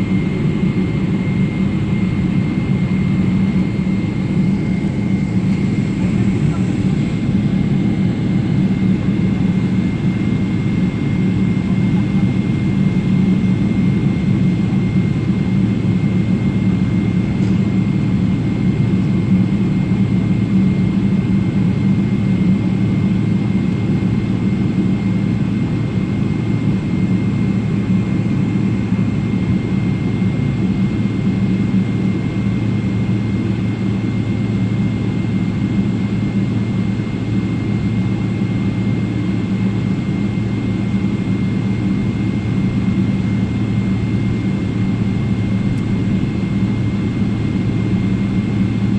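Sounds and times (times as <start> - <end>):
jet cabin rumble: 0.0 - 24.0, 27.5 - 48.9.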